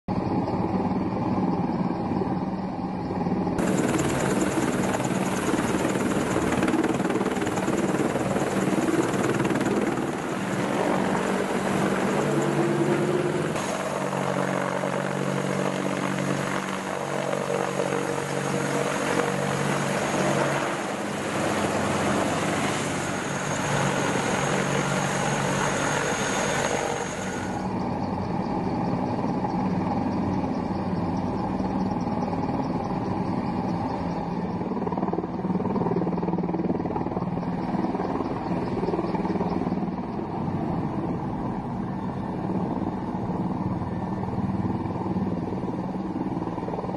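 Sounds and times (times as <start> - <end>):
helicopter engines and rotors: 0.1 - 46.9
high turbine whine: 0.1 - 46.9.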